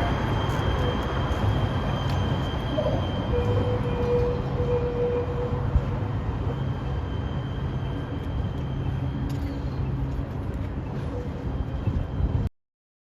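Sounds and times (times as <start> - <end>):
high-pitched whine: 0.0 - 12.5
train rumbling: 0.0 - 12.5.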